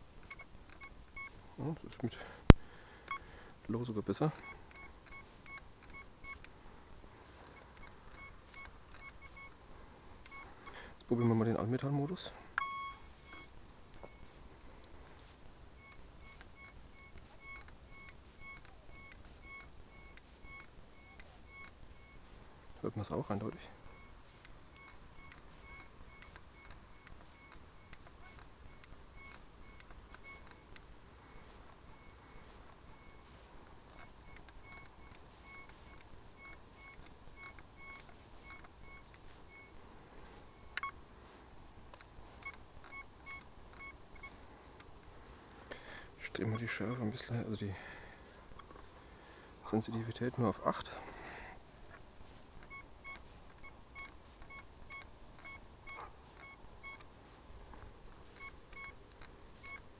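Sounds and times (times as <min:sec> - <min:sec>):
metal detector beeps: 0:00.2 - 0:02.4, 0:03.0 - 0:06.5, 0:07.2 - 0:09.6, 0:10.2 - 0:14.5, 0:15.1 - 0:41.0, 0:41.9 - 0:57.1, 0:57.7 - 0:59.9.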